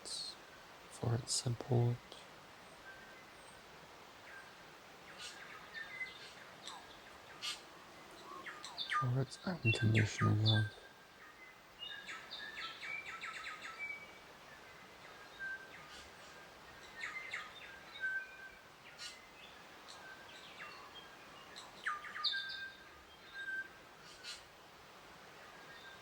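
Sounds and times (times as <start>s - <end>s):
faint steady hiss: 0.0s - 26.0s
birds chirping: 1.0s - 24.5s.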